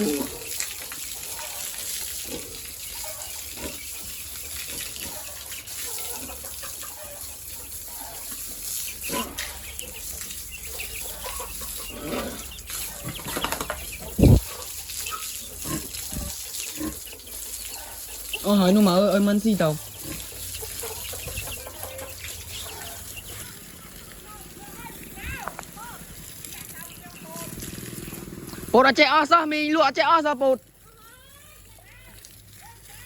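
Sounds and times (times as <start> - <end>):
chickens clucking: 0.0 - 29.9.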